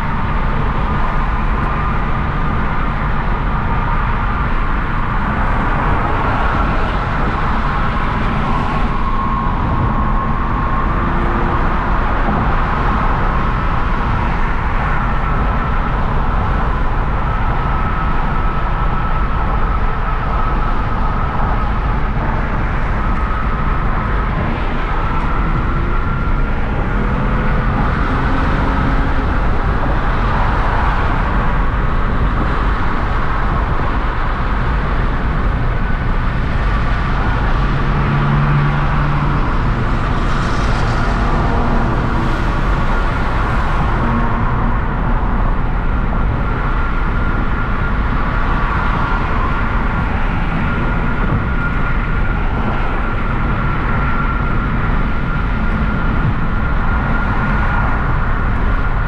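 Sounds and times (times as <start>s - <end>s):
car engine cruising: 0.0s - 59.0s
tyre road noise: 0.0s - 59.0s.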